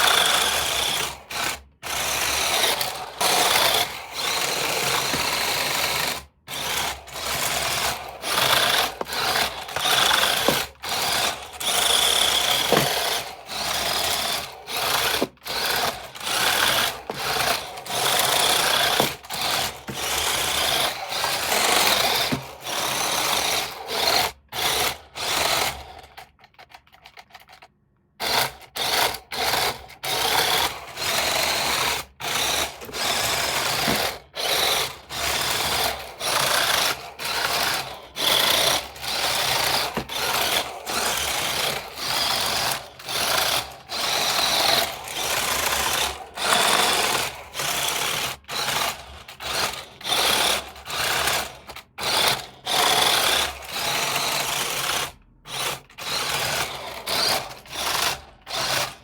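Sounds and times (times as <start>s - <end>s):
toy car motor whirring in bursts: 0.0s - 59.0s.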